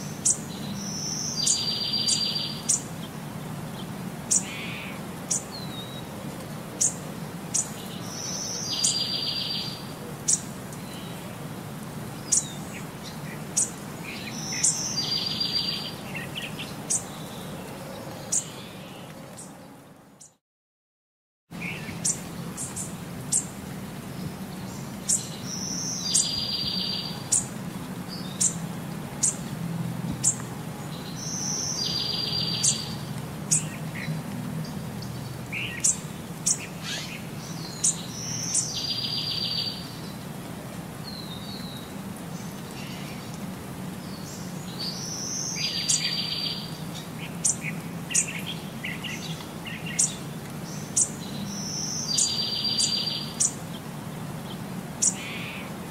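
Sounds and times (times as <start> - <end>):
small songbirds chirping: 0.0 - 20.4, 21.5 - 55.9.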